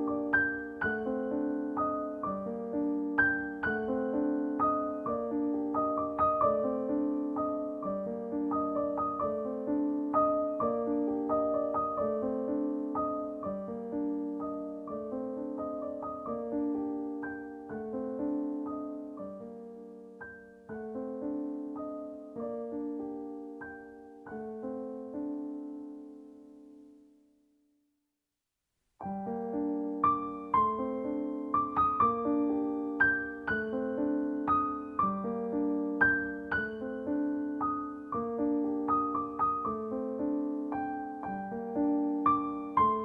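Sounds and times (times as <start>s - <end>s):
gentle piano melody: 0.0s - 27.5s, 29.0s - 43.0s.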